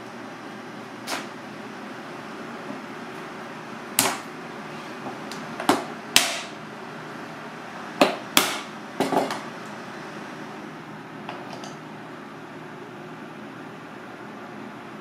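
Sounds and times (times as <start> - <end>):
steady kitchen hum: 0.0 - 15.0.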